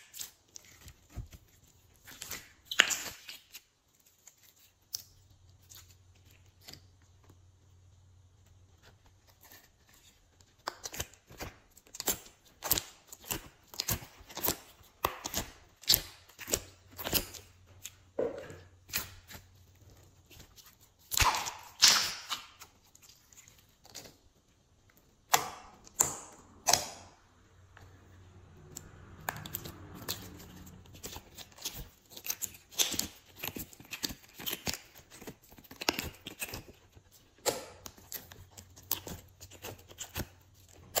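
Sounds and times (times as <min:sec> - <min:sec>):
slime squelching and popping: 0:00.0 - 0:07.4, 0:09.4 - 0:27.8, 0:28.6 - 0:41.0.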